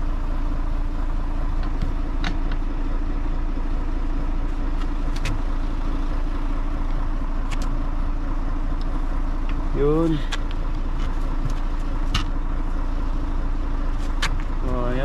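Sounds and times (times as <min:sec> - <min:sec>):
fire truck engine running: 0:00.0 - 0:15.0.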